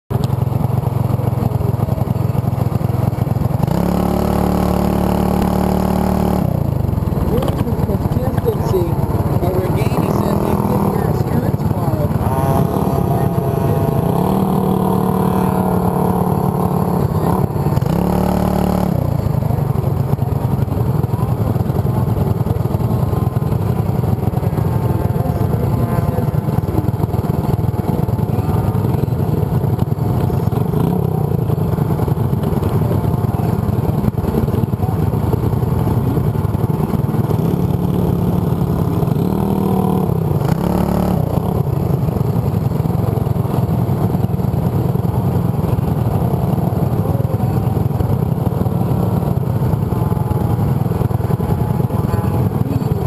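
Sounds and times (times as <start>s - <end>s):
kart engines idling and revving: 0.1s - 53.0s.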